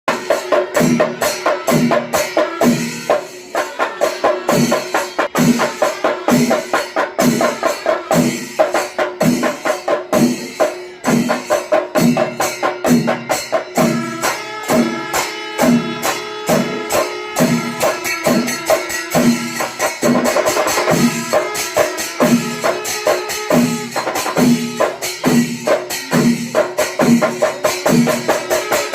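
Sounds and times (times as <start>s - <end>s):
cymbal clashing: 0.1s - 28.9s
drums beating: 0.1s - 28.9s
wind instrument melody: 0.1s - 28.9s.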